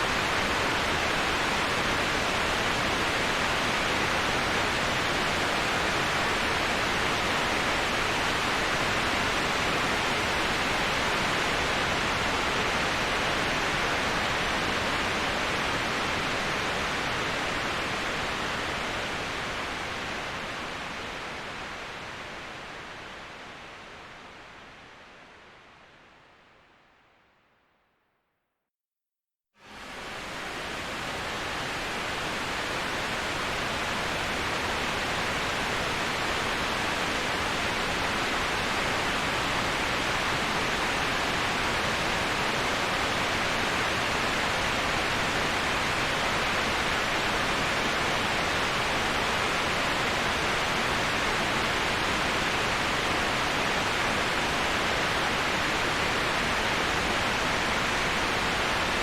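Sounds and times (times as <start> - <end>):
waterfall rushing: 0.0 - 22.9, 29.7 - 59.0.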